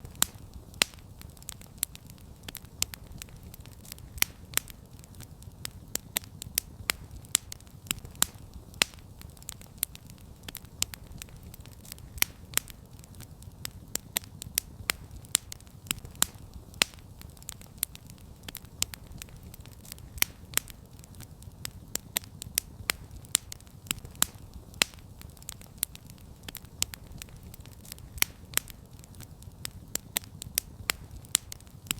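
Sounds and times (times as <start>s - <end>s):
campfire crackling and popping: 0.0s - 31.9s
low rumble of flames: 0.0s - 31.9s.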